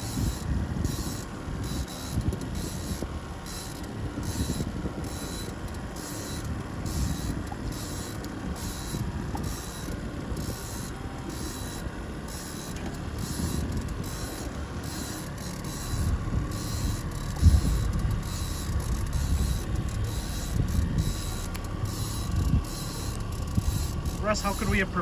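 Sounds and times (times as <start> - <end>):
boat motor droning: 0.0 - 25.0
water against hull: 0.0 - 25.0
wind: 0.0 - 25.0.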